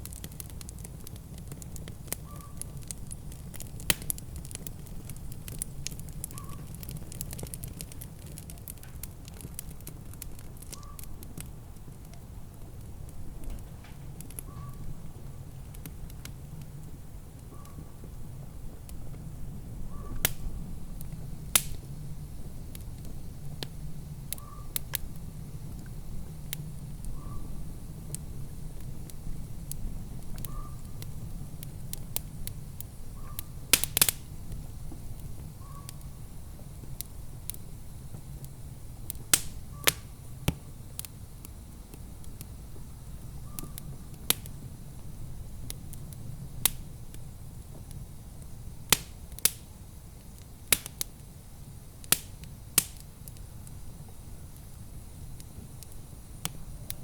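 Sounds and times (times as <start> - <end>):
fire popping and snapping: 0.0 - 57.0
low steady rumble: 0.0 - 57.0
wood fire crackling: 0.0 - 57.0.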